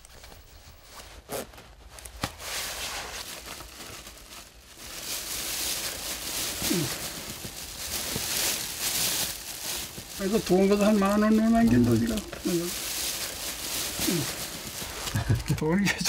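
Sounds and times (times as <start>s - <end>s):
plastic cover rustling: 0.0s - 16.0s.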